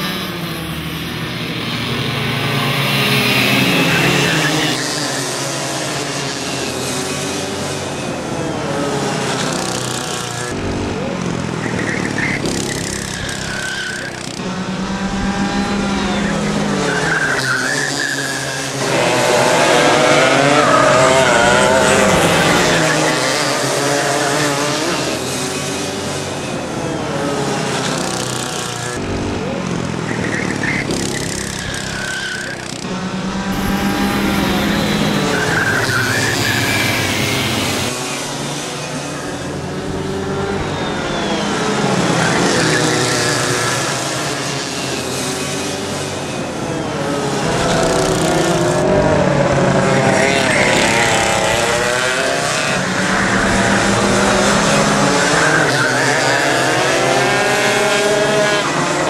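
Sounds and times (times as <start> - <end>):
go-kart engines at high revs: 0.0 - 59.0.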